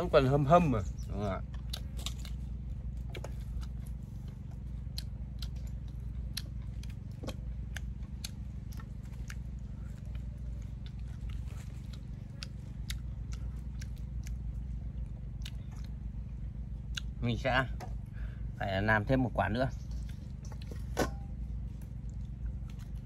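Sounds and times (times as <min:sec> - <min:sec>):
steady low hum: 0:00.0 - 0:23.0
wet chewing clicks and smacks: 0:00.8 - 0:17.4, 0:19.7 - 0:23.0.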